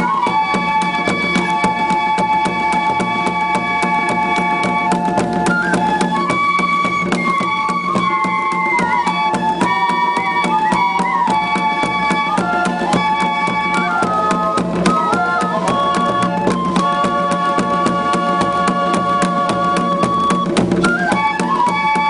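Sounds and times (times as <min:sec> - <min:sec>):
steady drum beat: 0:00.0 - 0:21.7
flute ensemble playing: 0:00.0 - 0:22.0.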